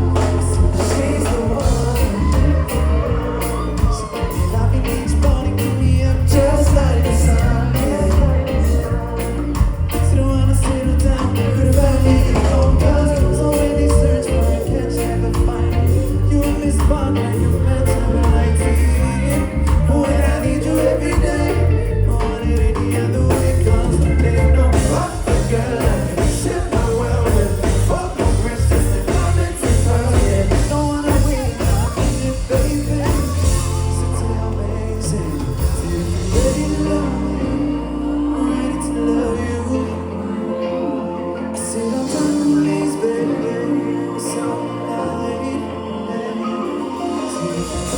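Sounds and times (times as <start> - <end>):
person singing: 0.0 - 47.9
reggae-pop band playing: 0.0 - 47.9.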